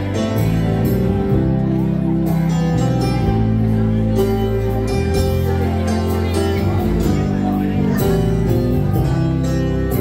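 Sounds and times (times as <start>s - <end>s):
dance band playing slow ballad: 0.0s - 10.0s.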